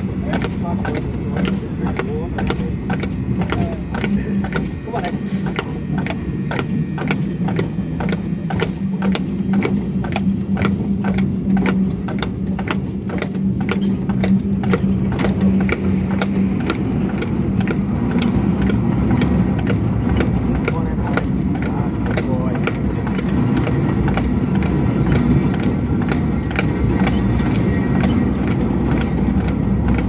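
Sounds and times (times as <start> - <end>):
horse hooves clopping on paving: 0.0 - 30.0
steady low hum: 0.0 - 30.0
tram rolling on rails: 0.0 - 30.0.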